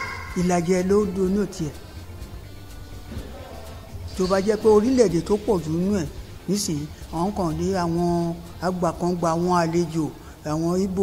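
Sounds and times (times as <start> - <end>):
soft background music: 0.0 - 11.0
steady low hum: 0.0 - 11.0.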